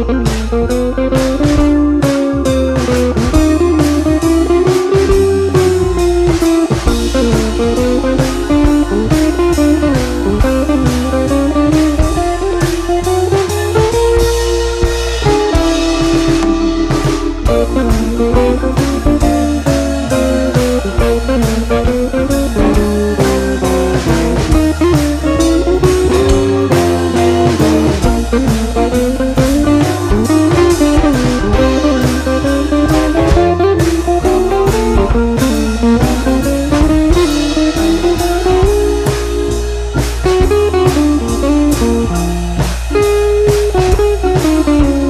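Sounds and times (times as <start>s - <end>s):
blues guitar tune: 0.0s - 45.0s
steady drum beat: 0.0s - 45.0s.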